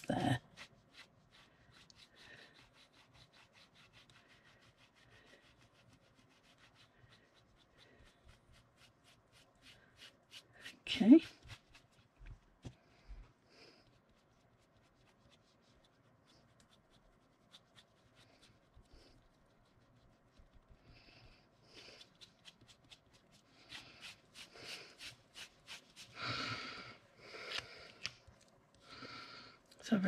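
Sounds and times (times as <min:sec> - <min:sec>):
sponge dabbing through stencil: 0:00.0 - 0:26.2.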